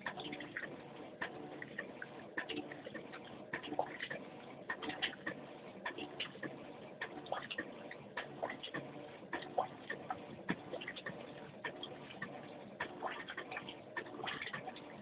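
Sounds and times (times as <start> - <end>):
washing machine churning: 0.0 - 15.0.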